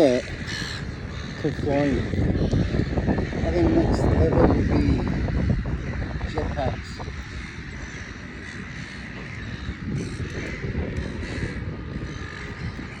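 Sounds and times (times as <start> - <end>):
seagulls calling: 0.0 - 13.0
steady low rumble: 0.0 - 13.0.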